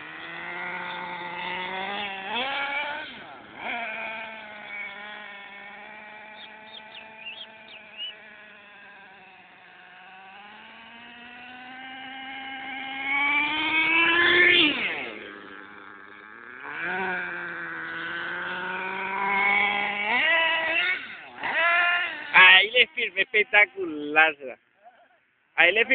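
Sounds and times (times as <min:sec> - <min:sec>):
electric motor whining: 0:00.0 - 0:24.4.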